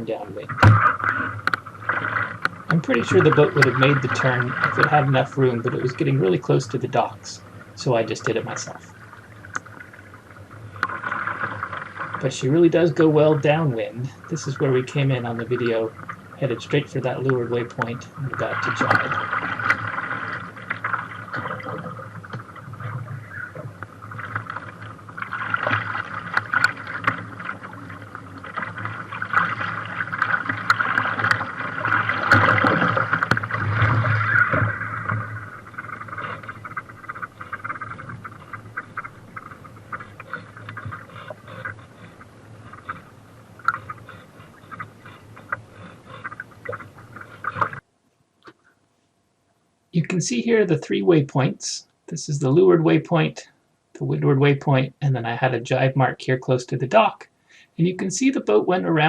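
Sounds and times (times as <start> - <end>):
water splashing around boat hull: 0.0 - 47.9.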